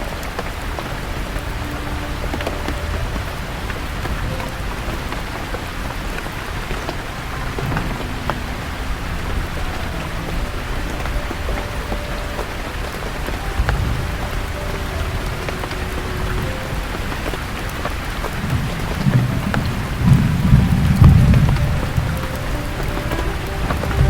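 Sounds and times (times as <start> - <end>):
rain on leaves: 0.0 - 24.0.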